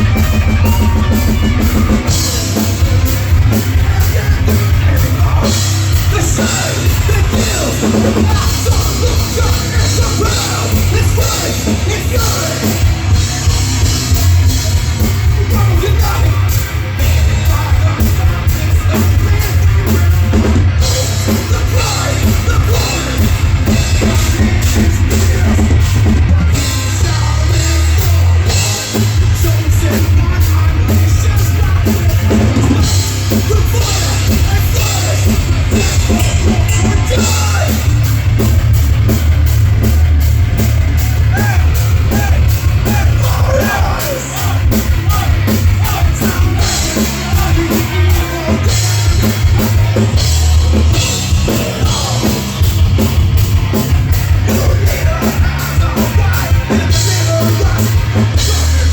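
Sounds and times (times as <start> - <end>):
vocals: 0.0 - 39.2, 40.6 - 58.9
heavy metal band playing live: 0.0 - 58.9.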